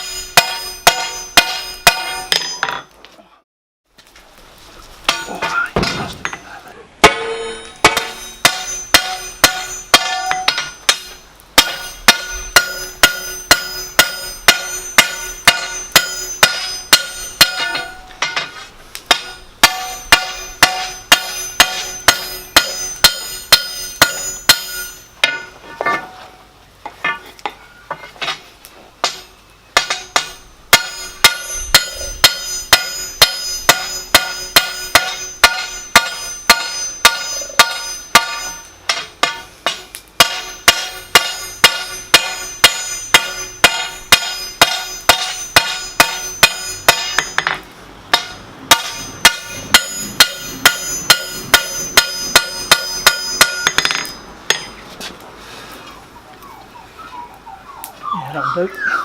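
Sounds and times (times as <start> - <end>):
hammer ringing on steel: 0.0 - 2.9, 7.0 - 26.2, 29.0 - 54.8.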